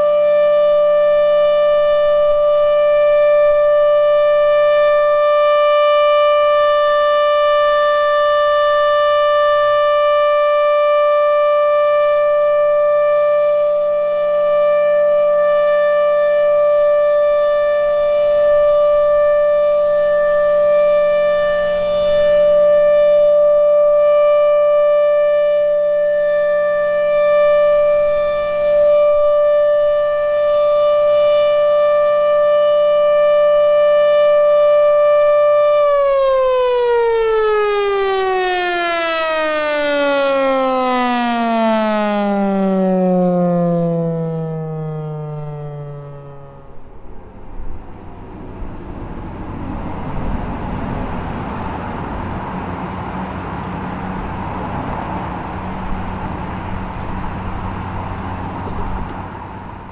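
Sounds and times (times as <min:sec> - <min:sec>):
warning siren steady high tone: 0:00.0 - 0:59.9.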